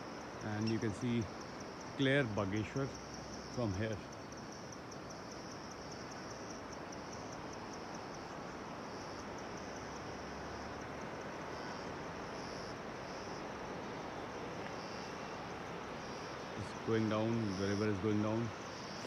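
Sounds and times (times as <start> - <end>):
insects chirring in a pulsed trill: 0.0 - 19.0
steady outdoor hiss: 0.0 - 19.0.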